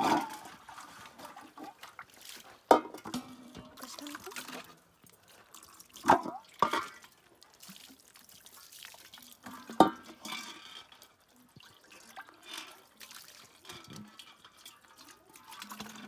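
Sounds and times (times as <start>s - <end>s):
water pouring into metal pot: 0.0s - 16.0s
water splashing onto concrete: 0.0s - 16.0s.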